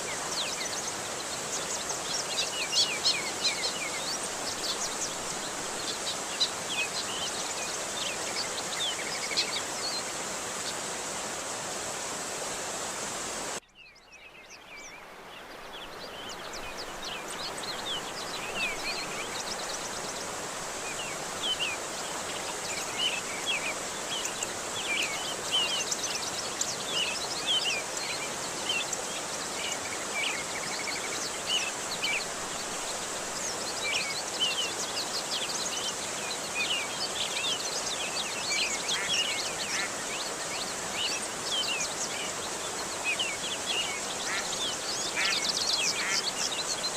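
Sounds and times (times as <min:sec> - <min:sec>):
small birds chirping: 0:00.0 - 0:11.4, 0:13.6 - 0:46.9
flowing water: 0:00.0 - 0:13.6, 0:14.4 - 0:46.9.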